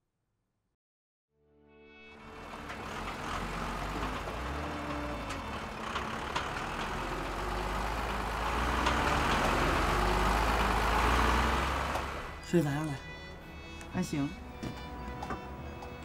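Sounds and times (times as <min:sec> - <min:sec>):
heavy trucks driving: 0:02.1 - 0:16.0.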